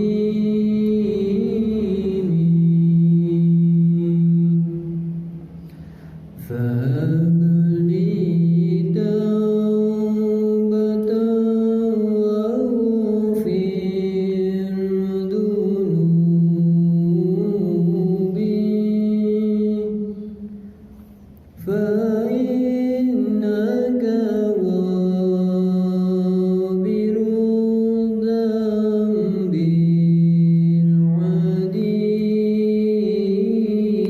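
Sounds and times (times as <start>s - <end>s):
person chanting: 0.0s - 5.6s, 6.4s - 20.7s, 21.6s - 34.0s.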